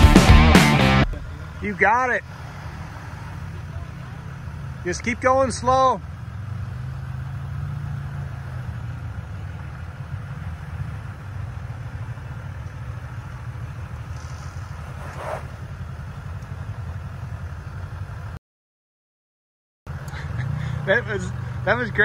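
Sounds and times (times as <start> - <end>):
off-road vehicle engine running: 0.0 - 18.4, 19.9 - 22.0.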